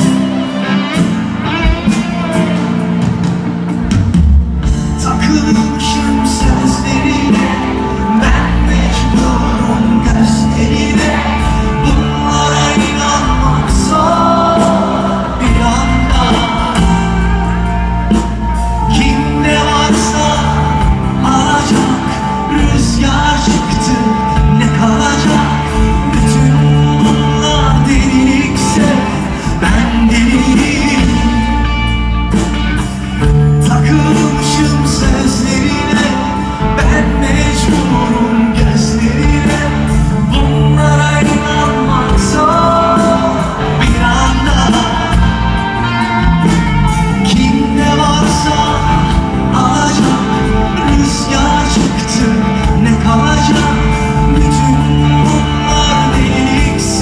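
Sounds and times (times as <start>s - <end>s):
live pop-rock band: 0.0s - 57.0s
male lead singer: 0.0s - 57.0s.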